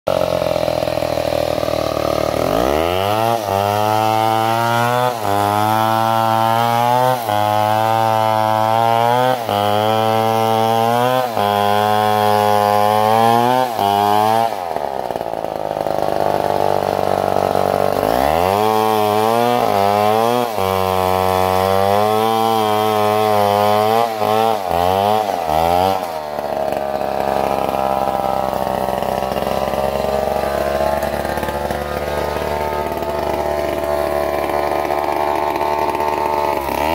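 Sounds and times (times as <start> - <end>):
chainsaw cutting log: 0.1 - 36.9.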